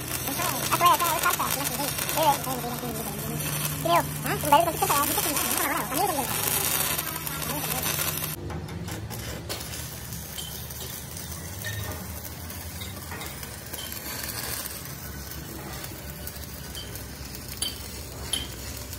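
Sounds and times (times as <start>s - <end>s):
welding arc crackling: 0.0s - 18.9s.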